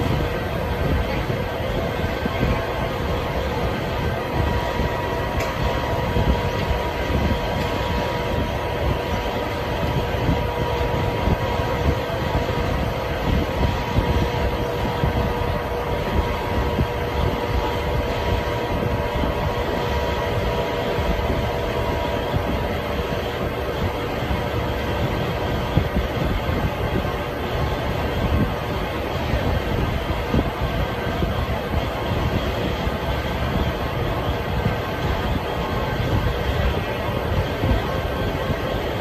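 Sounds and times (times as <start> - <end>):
mechanical rumble with hum: 0.0 - 39.0.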